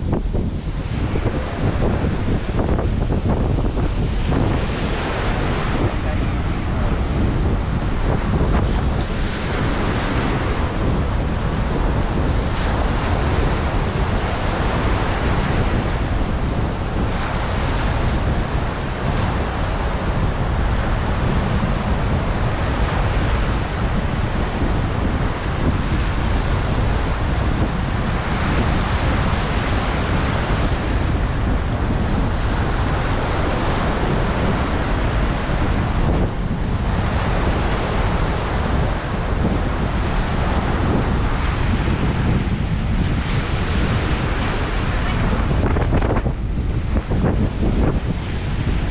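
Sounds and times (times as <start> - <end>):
ocean surf breaking: 0.0 - 48.9
wind buffeting microphone: 0.0 - 48.9.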